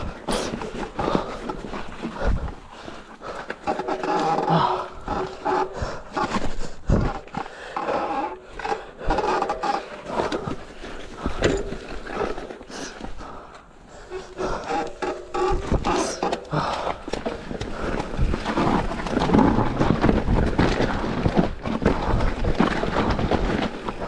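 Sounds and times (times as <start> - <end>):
bike rattling over bumps: 0.0 - 24.0
tyres rolling over dirt: 0.0 - 24.0.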